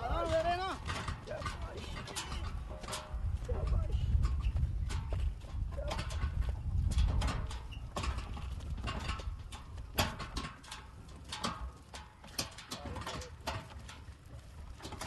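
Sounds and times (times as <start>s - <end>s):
clattering knocks and clicks: 0.2s - 15.0s.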